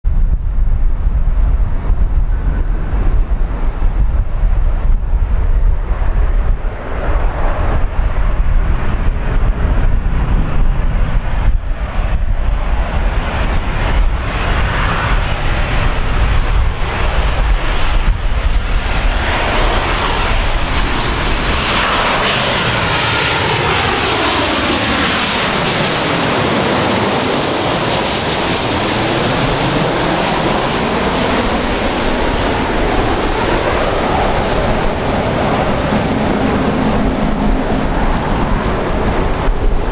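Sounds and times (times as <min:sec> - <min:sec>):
wind buffeting microphone: 0:00.0 - 0:39.9
jet engine whine passing overhead: 0:00.1 - 0:39.9.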